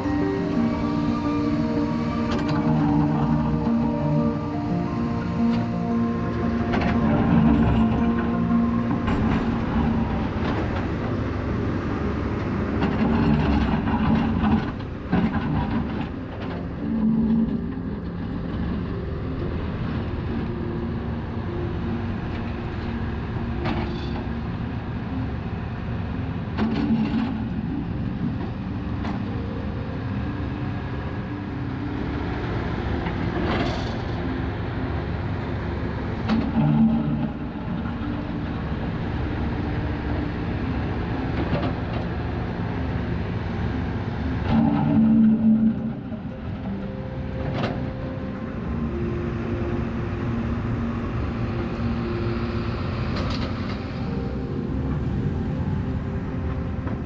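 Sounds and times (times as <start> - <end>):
heavy vehicle engines rumbling: 0.0 - 57.0.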